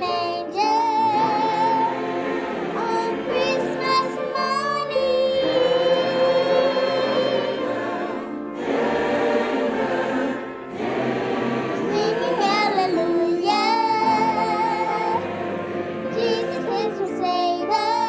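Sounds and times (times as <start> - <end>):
choir singing sustained notes: 0.0 - 18.0.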